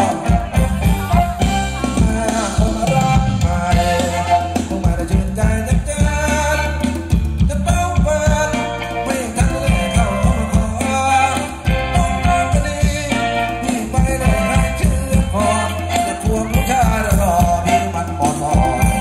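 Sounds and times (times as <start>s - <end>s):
bass line: 0.0s - 19.0s
drums and hand percussion: 0.0s - 19.0s
person singing: 0.0s - 19.0s.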